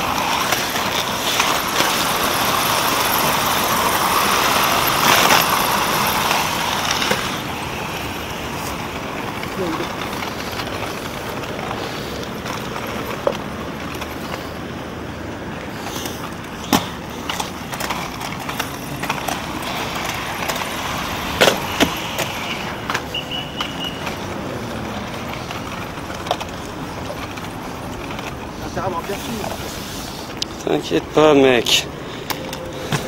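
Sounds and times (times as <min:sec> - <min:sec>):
road traffic hum: 0:00.0 - 0:33.0
roller skate wheels rolling on pavement: 0:00.0 - 0:33.0
skates clacking on concrete: 0:00.0 - 0:33.0.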